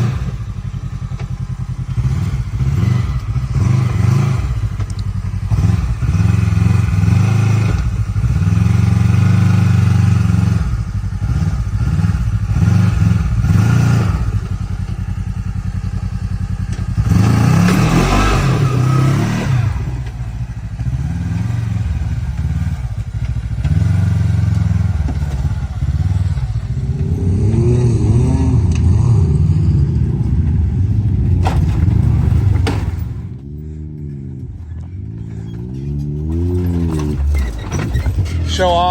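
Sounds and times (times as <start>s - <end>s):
clatter and thumps from rough ground: 0.0s - 9.8s, 12.2s - 27.9s, 29.6s - 38.9s
utility vehicle engine running: 0.0s - 38.9s.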